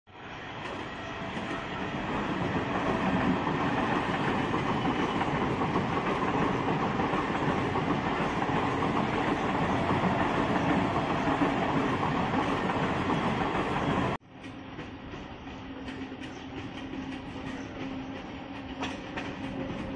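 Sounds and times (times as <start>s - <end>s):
electric train running past: 0.1s - 19.9s.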